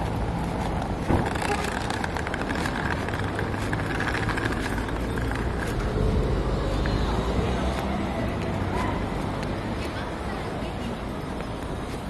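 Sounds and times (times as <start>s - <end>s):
road traffic: 0.0s - 12.0s
vehicle engine humming: 0.0s - 12.0s.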